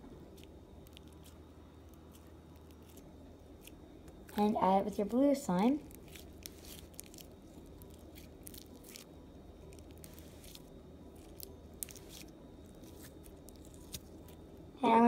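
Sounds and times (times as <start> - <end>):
slime squishing: 0.3 - 4.5, 5.5 - 14.5.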